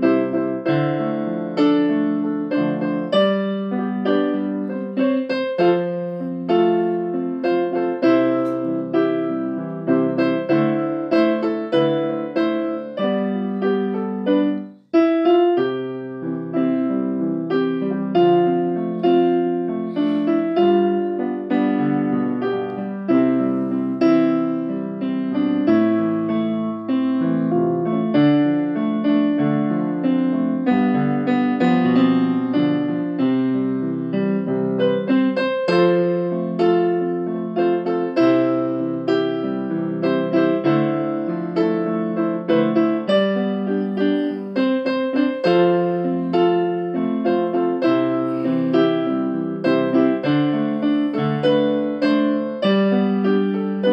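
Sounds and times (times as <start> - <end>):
piano-toned keyboard music: 0.0 - 53.9.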